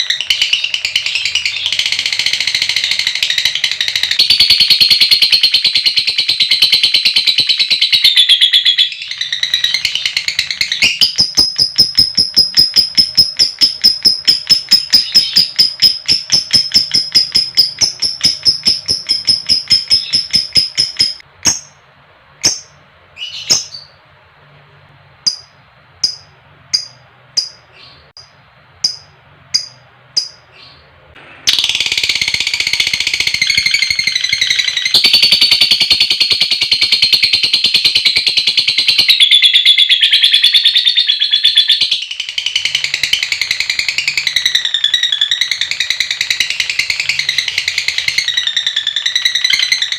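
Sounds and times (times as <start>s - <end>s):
lovebird chattering trill: 0.0s - 21.8s, 22.4s - 24.0s, 25.2s - 30.8s, 31.5s - 49.9s.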